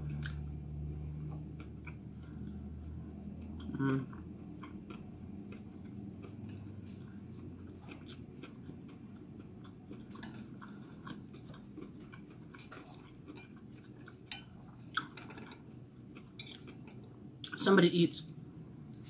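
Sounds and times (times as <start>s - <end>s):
low room hum: 0.0s - 19.0s
chewing with wet mouth clicks: 0.1s - 0.6s, 1.3s - 2.6s, 3.4s - 17.6s.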